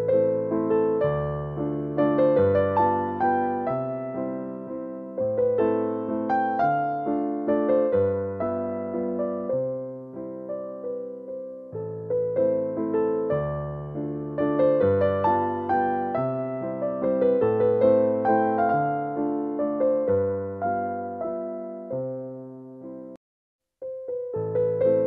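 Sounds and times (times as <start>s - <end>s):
gentle piano music: 0.0s - 23.2s, 23.8s - 25.0s.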